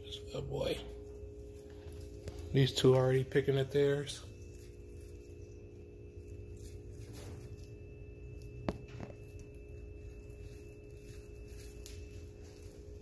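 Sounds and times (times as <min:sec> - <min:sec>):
faint high whine: 0:00.0 - 0:13.0
low electrical hum: 0:00.0 - 0:13.0.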